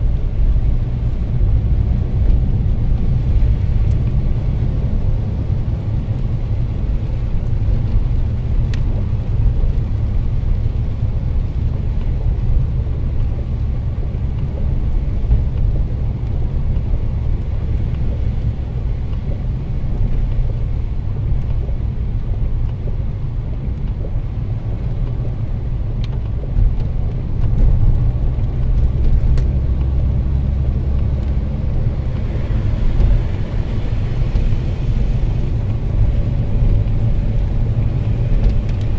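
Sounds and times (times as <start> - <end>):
car engine rumble: 0.0 - 38.9
tyres on wet road: 0.0 - 38.9.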